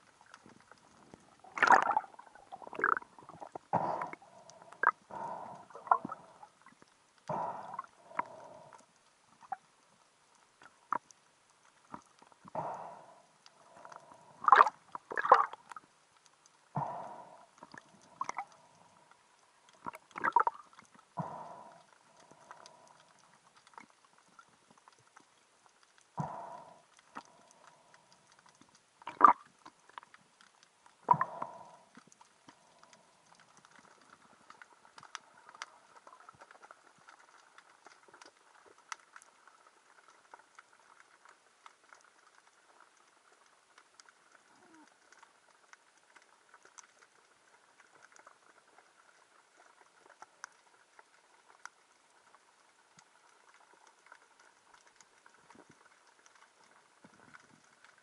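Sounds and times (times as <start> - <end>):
faint underwater crackle: 0.0 - 58.0.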